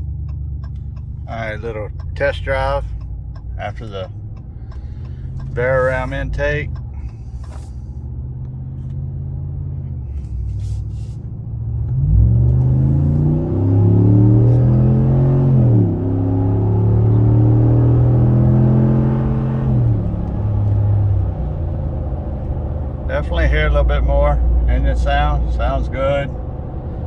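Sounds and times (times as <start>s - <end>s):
truck engine accelerating: 0.0s - 27.0s.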